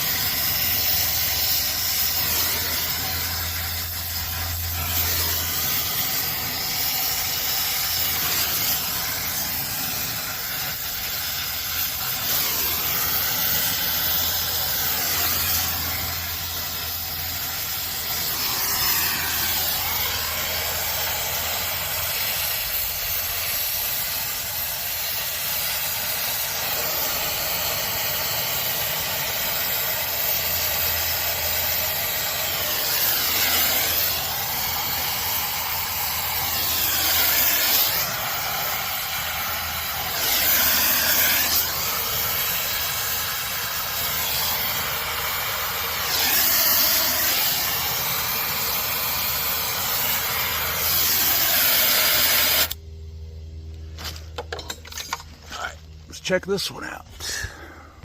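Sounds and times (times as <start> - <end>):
brazing torch flame hissing: 0.0 - 52.8.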